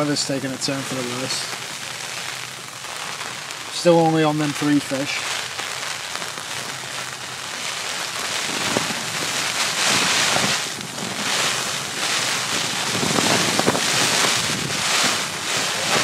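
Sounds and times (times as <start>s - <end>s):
gusting wind: 0.0s - 16.0s
rain: 0.0s - 16.0s.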